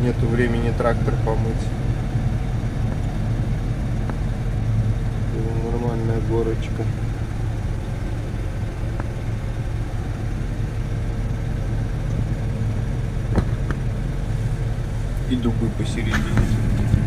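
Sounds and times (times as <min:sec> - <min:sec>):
steady whine: 0:00.0 - 0:17.0
tractor diesel engine running: 0:00.0 - 0:17.0.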